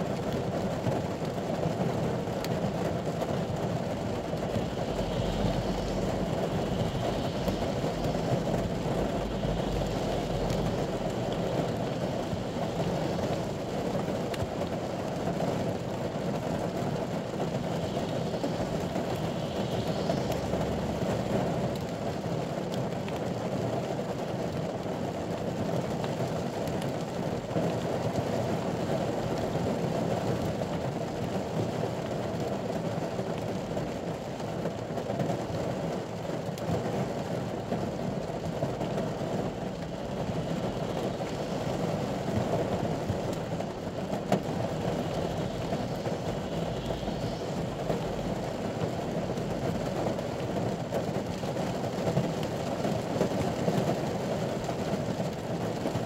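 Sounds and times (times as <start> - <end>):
rain on a vehicle roof: 0.0 - 56.0.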